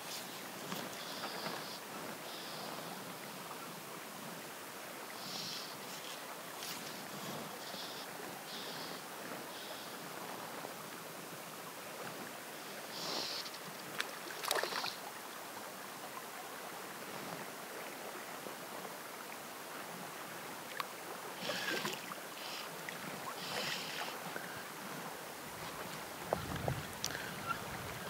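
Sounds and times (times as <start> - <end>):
flowing creek water hiss: 0.0 - 28.0.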